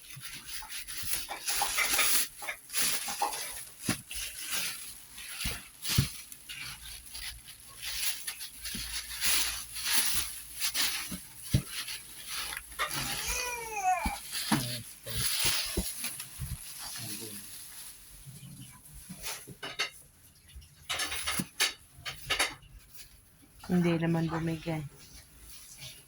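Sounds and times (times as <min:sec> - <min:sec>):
packaging rustling and crinkling: 0:00.0 - 0:26.0.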